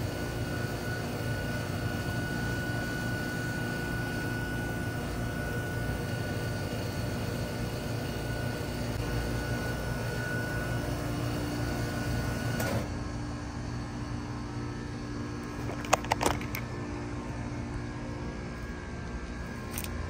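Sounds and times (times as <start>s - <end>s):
heat pump compressor running: 0.0s - 20.0s.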